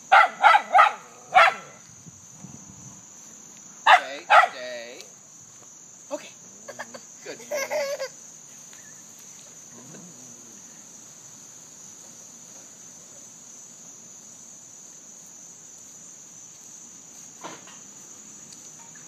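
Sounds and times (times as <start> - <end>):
insect chorus chirring: 0.0 - 19.0.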